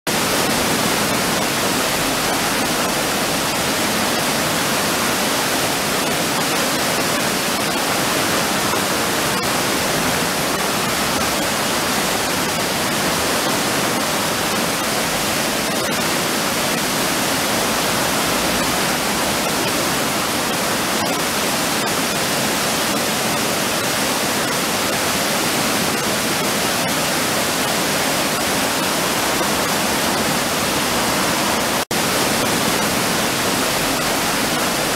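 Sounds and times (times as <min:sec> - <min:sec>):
river rushing over weir: 0:00.1 - 0:34.9.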